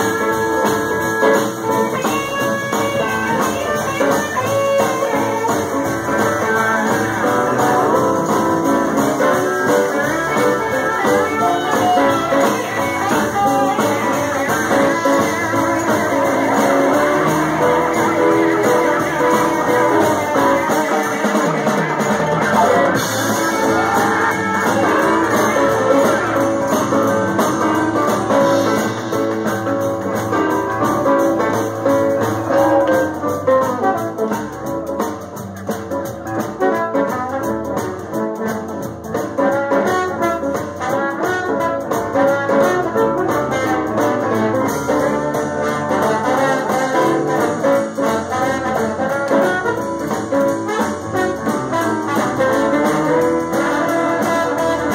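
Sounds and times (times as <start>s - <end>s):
trombone playing: 0.0s - 35.1s, 36.0s - 54.9s
blues-rock band playing: 0.0s - 54.9s.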